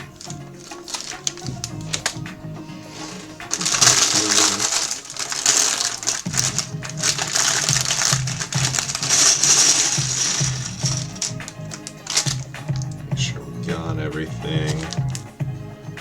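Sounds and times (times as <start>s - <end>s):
plastic bags crinkling: 0.0s - 15.4s
background music: 0.0s - 16.0s.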